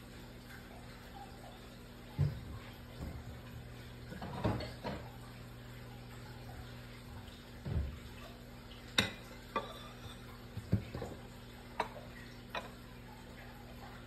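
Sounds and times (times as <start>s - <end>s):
oil popping and ticking: 0.0s - 14.0s
pancake frying in oil: 0.0s - 14.0s.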